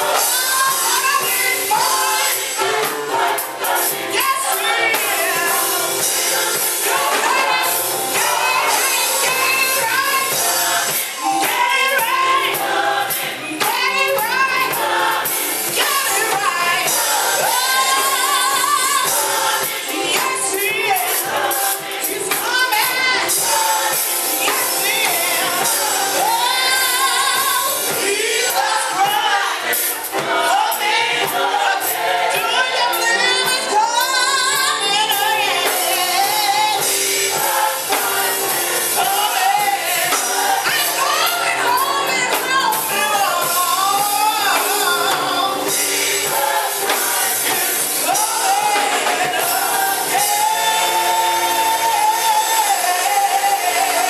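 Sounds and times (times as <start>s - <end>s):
band accompaniment: 0.0s - 54.0s
gospel choir singing: 0.0s - 54.0s
woman singing lead vocal: 0.0s - 54.0s.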